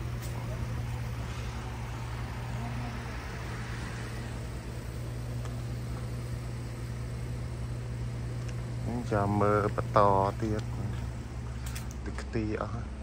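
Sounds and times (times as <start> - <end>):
pickup truck engine idling: 0.0 - 13.0.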